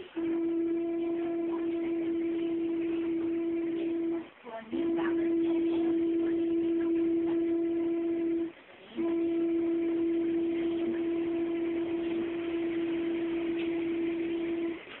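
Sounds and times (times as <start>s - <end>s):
person humming a steady note: 0.0s - 15.0s.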